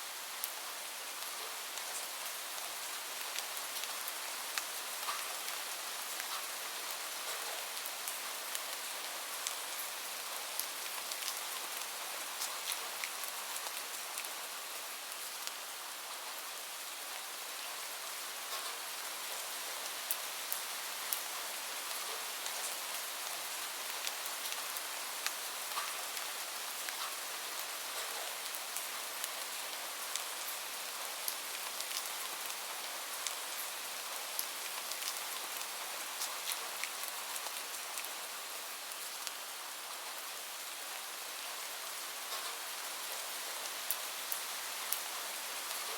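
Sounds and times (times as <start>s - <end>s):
rain hiss: 0.0s - 45.9s
raindrops ticking on a surface: 0.3s - 45.9s.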